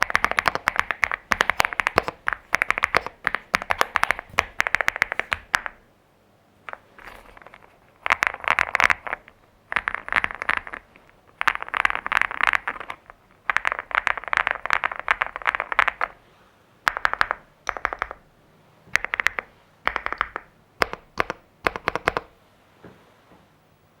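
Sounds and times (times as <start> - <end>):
mechanical keyboard typing: 0.0 - 5.8, 6.7 - 16.2, 16.9 - 18.2, 18.9 - 22.3.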